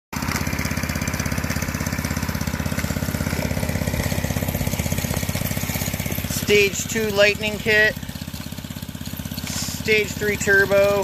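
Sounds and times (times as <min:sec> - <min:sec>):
small engine idling: 0:00.2 - 0:11.0.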